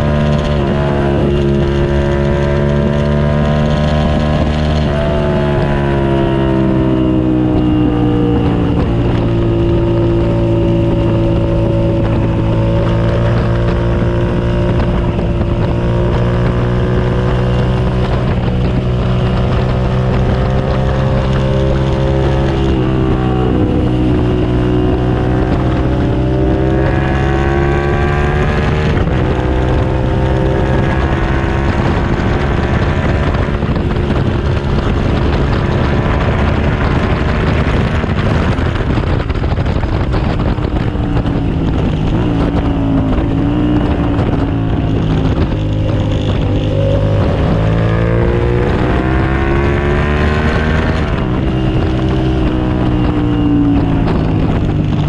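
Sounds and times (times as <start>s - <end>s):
motorcycle engine revving: 0.0s - 55.0s
wind buffeting microphone: 0.0s - 55.0s.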